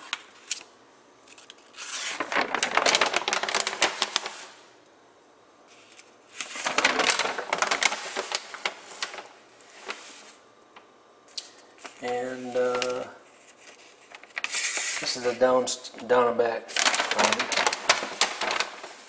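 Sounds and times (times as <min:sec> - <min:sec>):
paper sheets rustling and crackling: 0:01.3 - 0:04.7, 0:05.7 - 0:15.6, 0:16.7 - 0:19.0.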